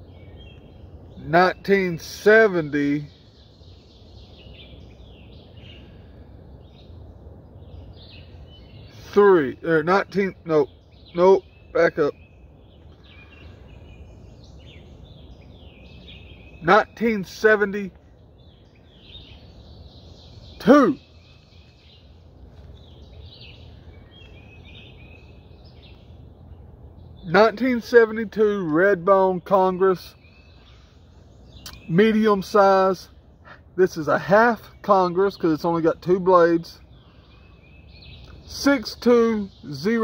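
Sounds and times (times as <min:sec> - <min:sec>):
low steady rumble: 0:00.0 - 0:39.9
low outdoor background hum: 0:00.0 - 0:40.0
small birds chirping: 0:00.0 - 0:40.0.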